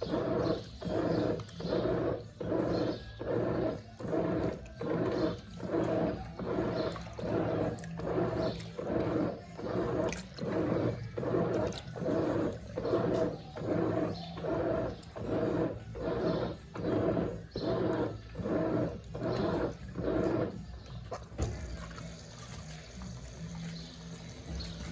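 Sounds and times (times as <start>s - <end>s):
low motor hum: 0.0s - 24.9s
water swishing in washing machine: 0.0s - 24.9s.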